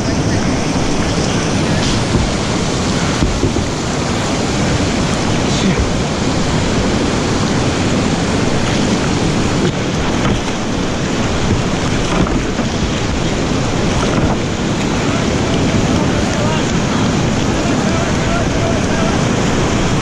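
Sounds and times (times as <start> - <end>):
whitewater rapids rushing: 0.0 - 20.0.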